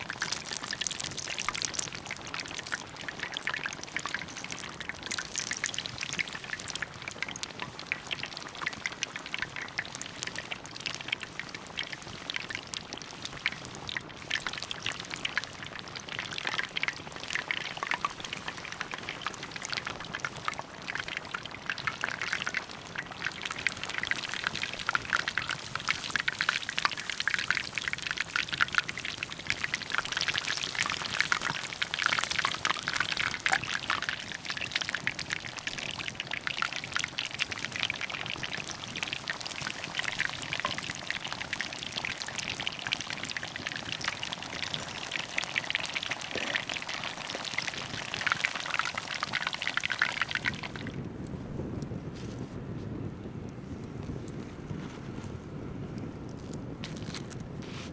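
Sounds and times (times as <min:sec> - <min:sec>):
food deep-frying in oil: 0:00.0 - 0:52.2, 0:52.9 - 0:57.9.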